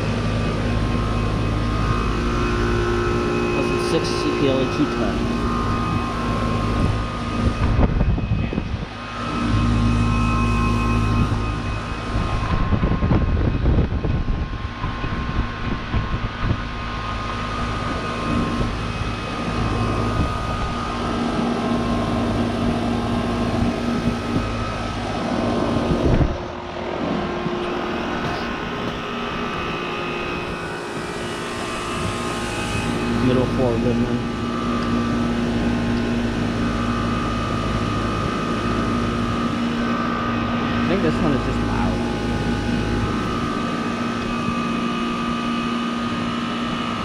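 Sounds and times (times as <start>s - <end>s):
heat pump humming: 0.0s - 47.0s.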